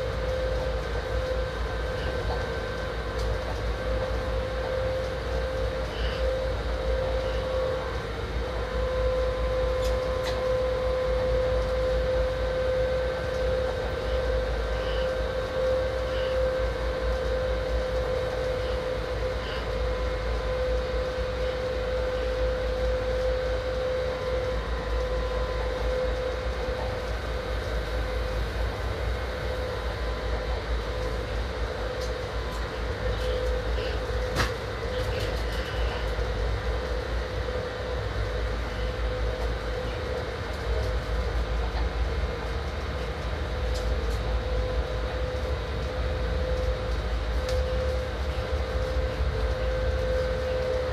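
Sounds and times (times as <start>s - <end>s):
train rumbling on rails: 0.0s - 50.9s.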